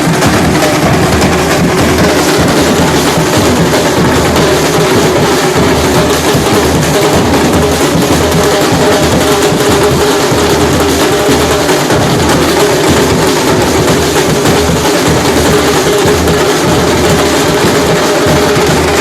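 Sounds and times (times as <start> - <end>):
loud music with drums: 0.0 - 19.0.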